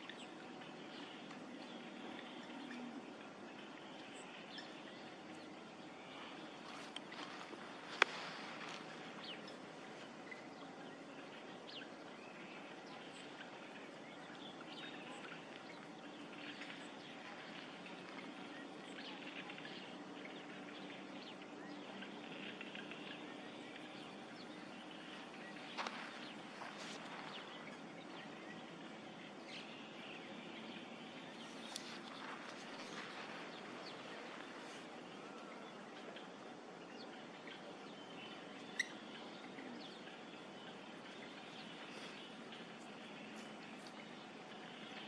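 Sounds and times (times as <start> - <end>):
bird chirps: 0.0 - 45.0
steady low hum: 0.0 - 45.0.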